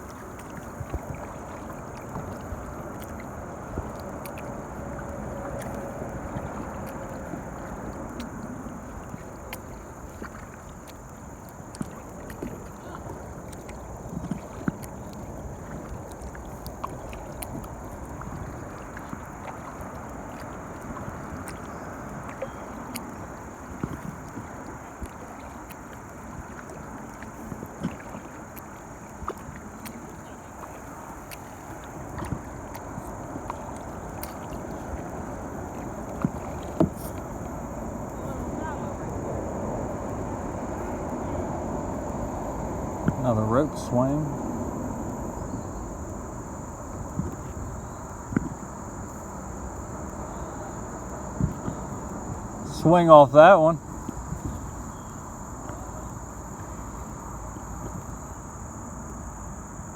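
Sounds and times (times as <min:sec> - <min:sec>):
paddle splashing water: 0:00.0 - 0:59.9.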